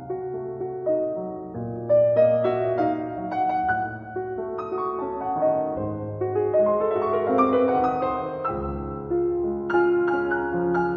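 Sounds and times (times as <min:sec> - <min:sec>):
slow piano music: 0:00.0 - 0:10.9.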